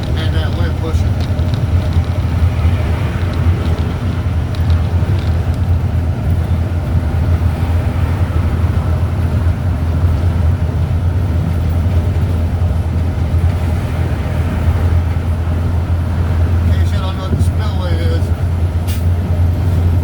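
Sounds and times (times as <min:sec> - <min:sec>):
strong wind blowing: 0:00.0 - 0:20.0.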